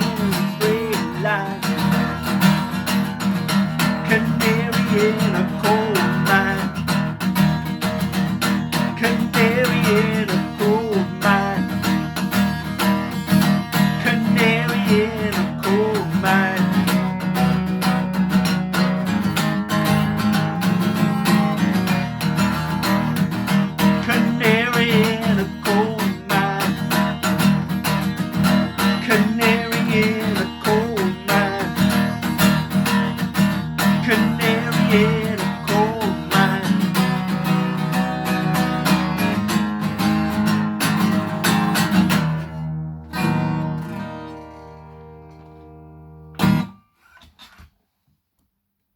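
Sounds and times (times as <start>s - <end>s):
acoustic guitar strumming: 0.0s - 47.6s.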